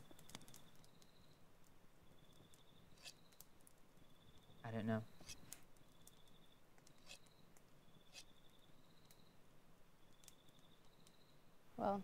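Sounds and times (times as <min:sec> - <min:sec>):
cricket chirping: 0:00.0 - 0:01.4, 0:02.0 - 0:12.0
campfire crackling: 0:00.0 - 0:12.0.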